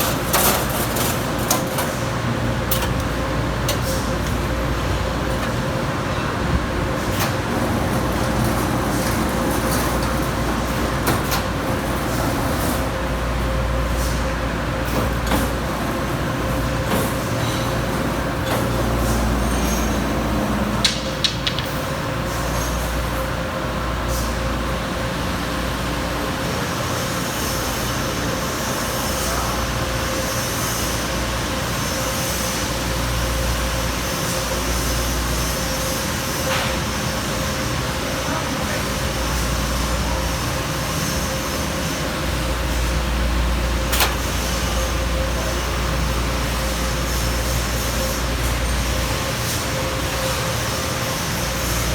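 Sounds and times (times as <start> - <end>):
machine hum and whine: 0.0 - 51.9.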